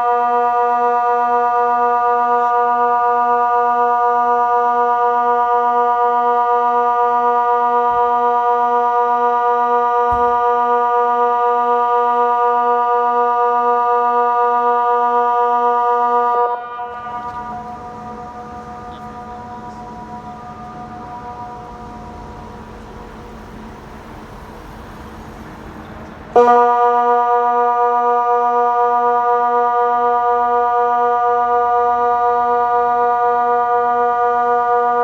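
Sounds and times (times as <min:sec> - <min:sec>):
electronic siren steady low tone: 0:00.0 - 0:35.0.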